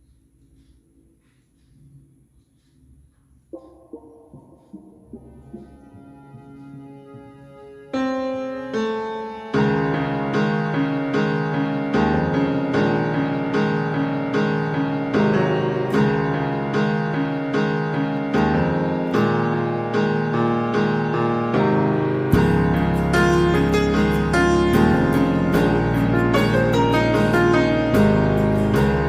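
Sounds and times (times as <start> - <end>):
piano repeated chords: 3.5 - 29.0.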